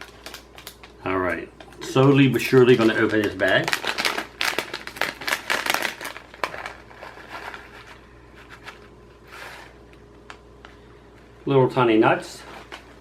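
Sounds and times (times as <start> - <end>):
plastic snack bag crinkling: 0.0 - 11.4, 12.2 - 13.0.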